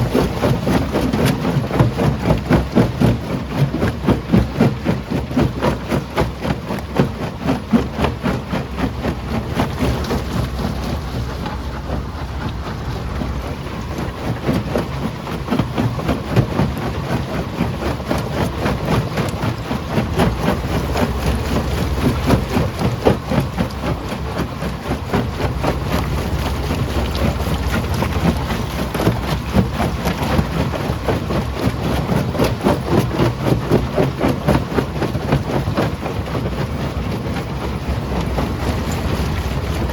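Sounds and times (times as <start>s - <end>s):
machine rumble: 0.0s - 39.9s.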